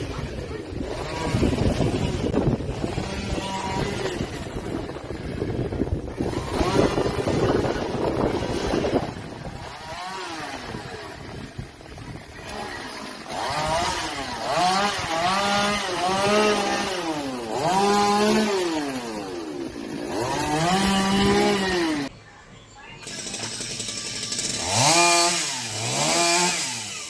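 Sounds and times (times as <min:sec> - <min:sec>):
chainsaw engine revving: 0:00.0 - 0:04.8, 0:06.1 - 0:11.4, 0:12.4 - 0:22.1, 0:23.0 - 0:27.0.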